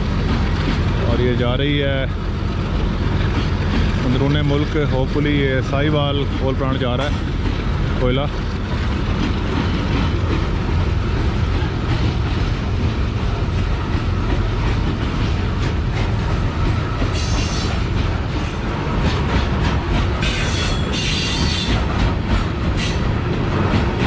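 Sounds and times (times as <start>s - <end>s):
freight train rumbling past: 0.0s - 24.0s
wheels clacking over rail joints: 0.0s - 24.0s.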